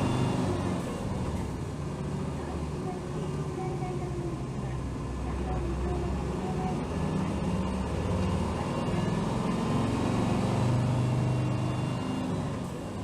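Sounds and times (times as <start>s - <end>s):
bus diesel engine drone: 0.0s - 13.0s
road noise: 0.0s - 13.0s.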